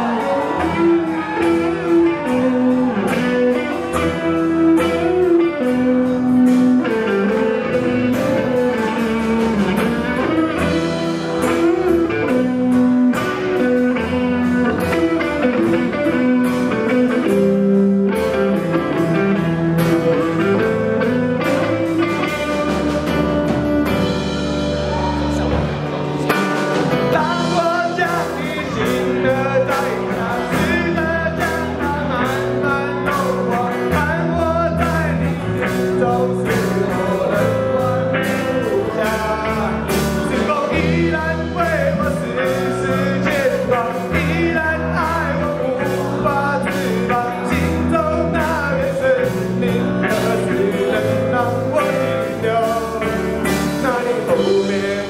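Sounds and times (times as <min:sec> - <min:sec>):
bass guitar: 0:00.0 - 0:55.0
lead guitar with bending notes: 0:00.0 - 0:55.0
steady drum beat: 0:00.0 - 0:55.0.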